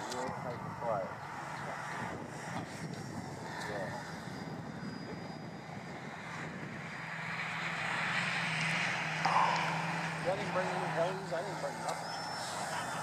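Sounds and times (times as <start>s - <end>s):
model airplane motor buzzing: 1.2s - 13.0s.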